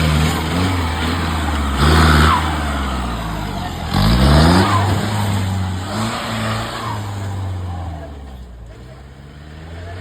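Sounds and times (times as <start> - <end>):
jeep engine revving: 0.0 - 10.0.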